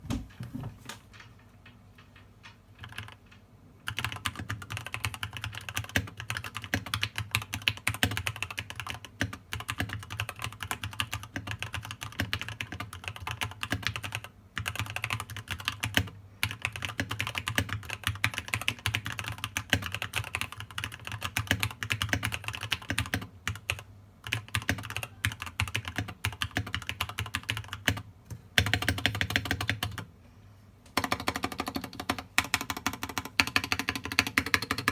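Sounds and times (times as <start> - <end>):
keyboard typing clicks: 2.8 - 28.0, 31.0 - 34.9.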